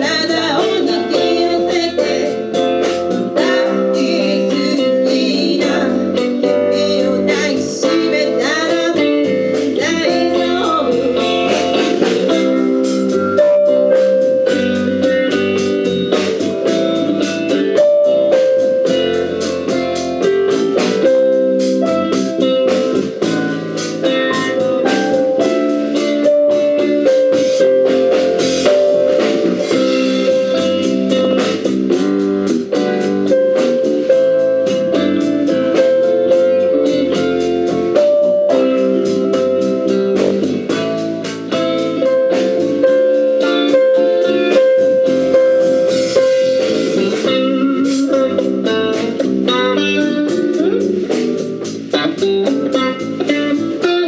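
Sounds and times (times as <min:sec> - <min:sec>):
electric guitar: 0:00.0 - 0:54.0
live blues band playing: 0:00.0 - 0:54.0.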